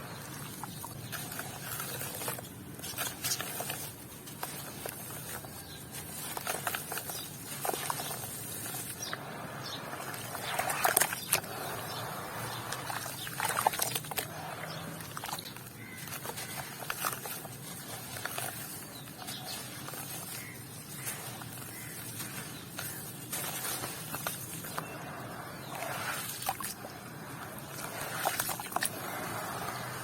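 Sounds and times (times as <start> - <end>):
cement grains crunching: 0.0 - 30.0.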